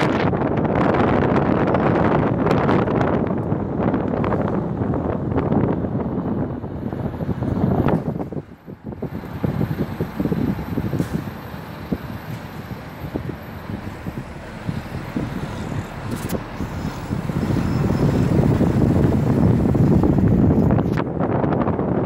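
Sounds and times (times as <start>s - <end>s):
road and wind rumble: 0.0s - 22.0s
wind buffeting microphone: 0.0s - 22.0s.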